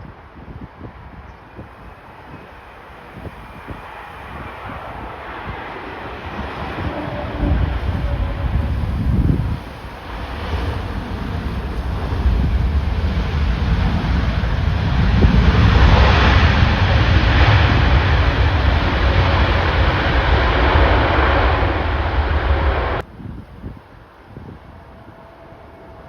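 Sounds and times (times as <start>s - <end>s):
jet airliner engine noise: 0.0s - 26.0s
wind buffeting microphone: 0.0s - 26.0s.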